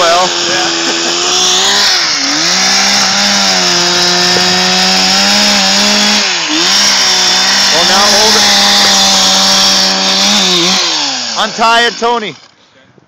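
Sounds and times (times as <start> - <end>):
chainsaw running at high speed: 0.0 - 12.6.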